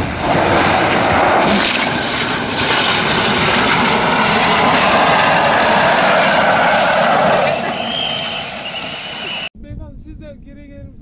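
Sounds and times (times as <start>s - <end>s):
propeller plane engines running: 0.0s - 9.5s.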